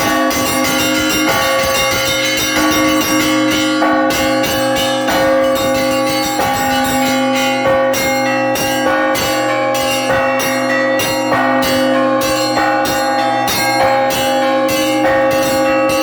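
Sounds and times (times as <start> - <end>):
larger bells ringing: 0.0 - 16.0
small bells struck rapidly: 0.0 - 16.0.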